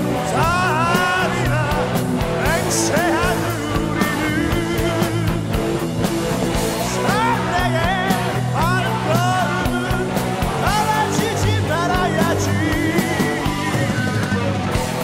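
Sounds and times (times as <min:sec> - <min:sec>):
heavy metal song: 0:00.0 - 0:15.0
high lead guitar melody: 0:00.0 - 0:15.0.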